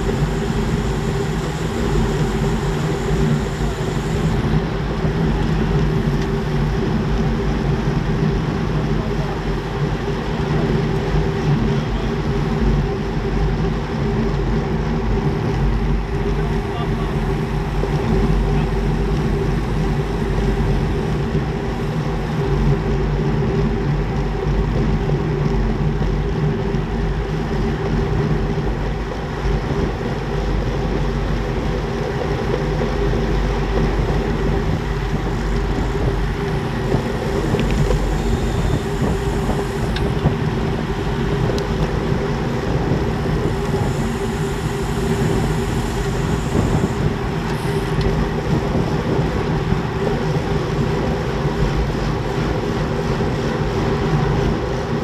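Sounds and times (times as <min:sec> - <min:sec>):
tyres rolling on asphalt: 0:00.0 - 0:55.0.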